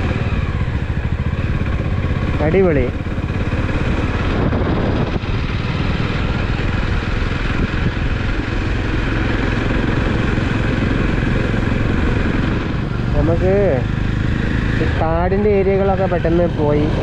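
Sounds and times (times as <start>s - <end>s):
wind rushing: 0.0s - 14.9s
motorcycle engine cruising: 0.0s - 17.0s.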